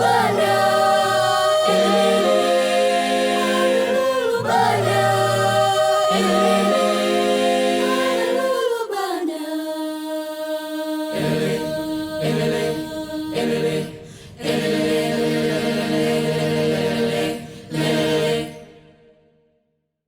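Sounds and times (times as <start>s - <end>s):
choir singing a cappella: 0.0s - 19.4s.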